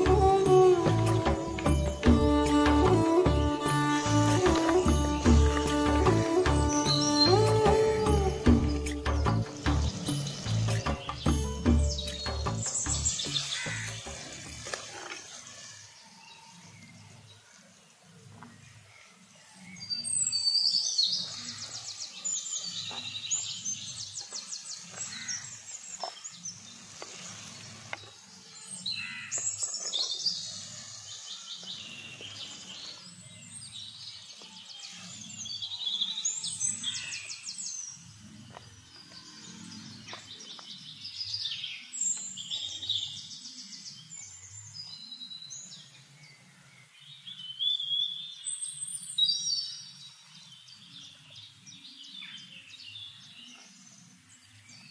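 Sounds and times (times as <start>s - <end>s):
songbirds singing: 0.0s - 54.9s.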